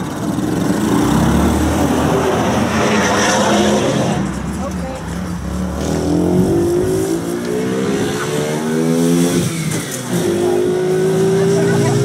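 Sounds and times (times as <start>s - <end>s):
small car engine accelerating: 0.0s - 12.0s.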